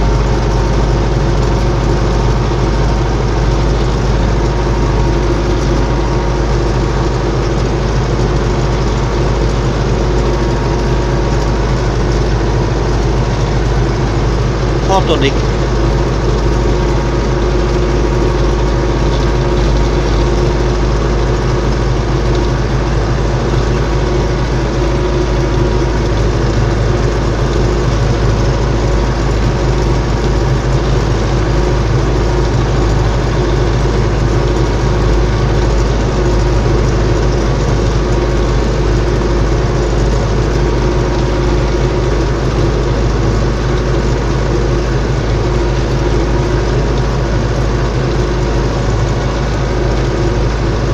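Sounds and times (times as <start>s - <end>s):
tractor diesel engine droning: 0.0s - 50.9s.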